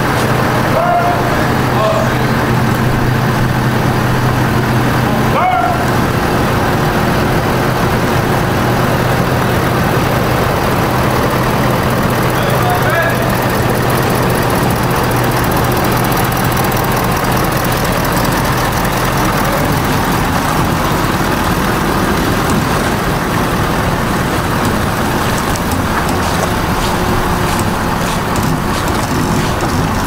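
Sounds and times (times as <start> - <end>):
pickup truck engine running: 0.0 - 30.0.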